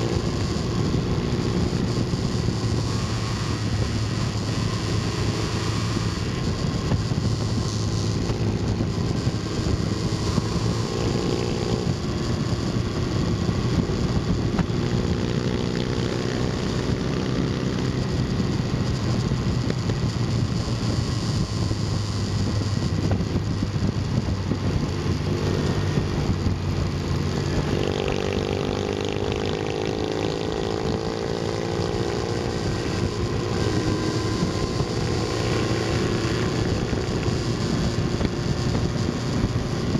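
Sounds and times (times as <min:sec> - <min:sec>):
motorcycle engine accelerating: 0:00.0 - 0:39.9
wind on microphone: 0:00.0 - 0:39.9.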